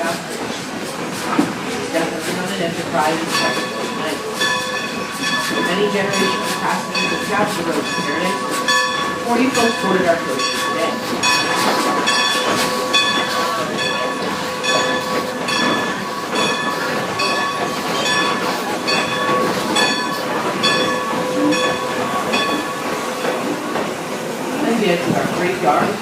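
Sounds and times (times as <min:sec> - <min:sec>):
train rolling rumble: 0:00.0 - 0:26.0.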